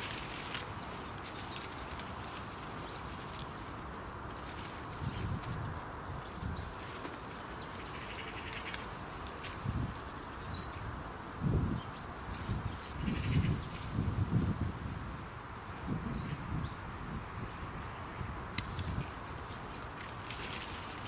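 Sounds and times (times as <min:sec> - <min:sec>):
birds chirping faintly: 0:00.0 - 0:21.0
outdoor background noise: 0:00.0 - 0:21.0.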